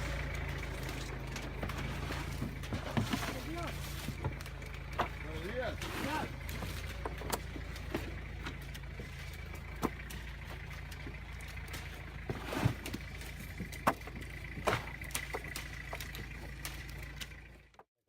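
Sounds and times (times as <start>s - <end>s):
vehicle engine humming: 0.0s - 17.9s.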